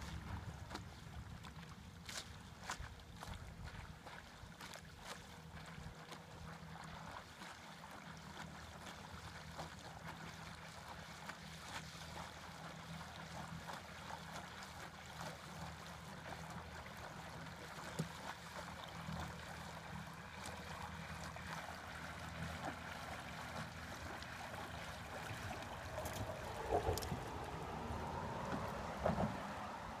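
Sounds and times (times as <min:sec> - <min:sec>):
water splashing and lapping: 0:00.0 - 0:30.0
water washing past boat: 0:00.0 - 0:30.0.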